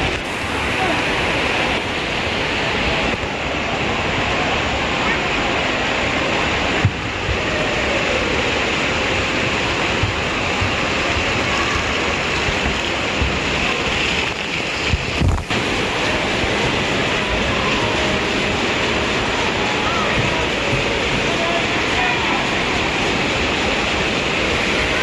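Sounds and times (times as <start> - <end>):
water rushing: 0.0 - 25.0.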